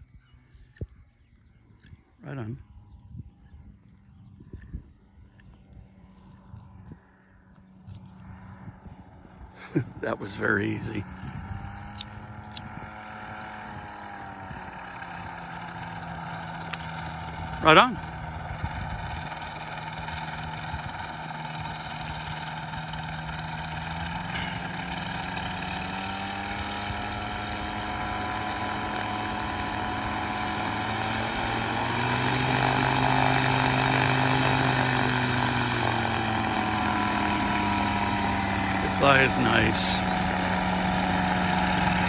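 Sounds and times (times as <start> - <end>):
model airplane engine running: 0.0 - 42.0.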